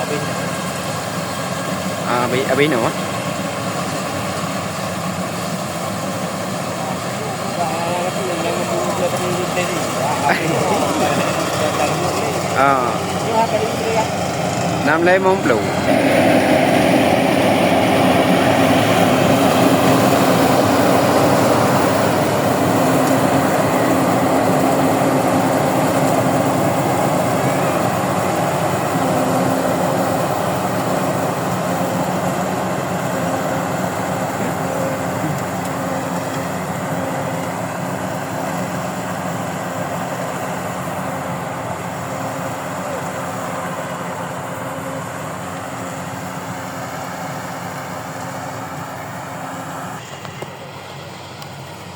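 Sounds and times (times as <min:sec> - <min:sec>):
harvesting machine engine running: 0:00.0 - 0:51.9.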